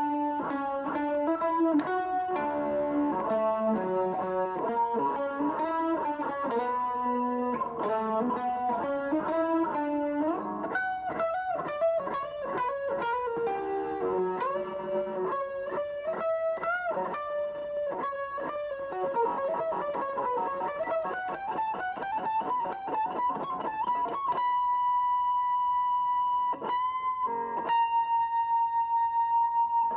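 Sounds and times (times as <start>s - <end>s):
electric guitar lead melody: 0.0s - 29.9s.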